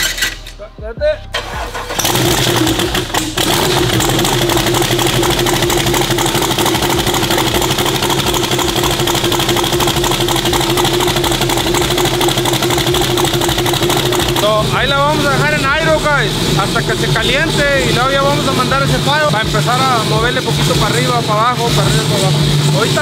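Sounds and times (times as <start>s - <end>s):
turbocharged engine idling: 1.3s - 23.0s
constant droning tone: 2.1s - 23.0s.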